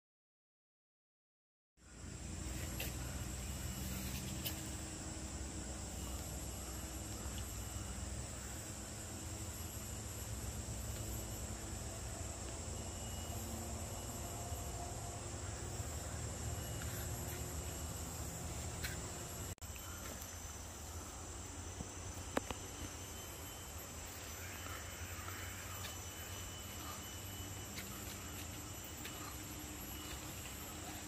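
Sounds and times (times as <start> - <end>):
high insect drone: 1.8 - 31.0.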